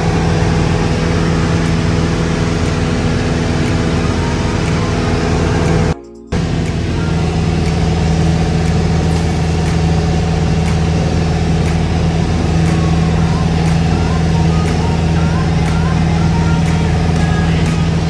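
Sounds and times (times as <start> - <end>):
light airplane engine droning: 0.0 - 18.0.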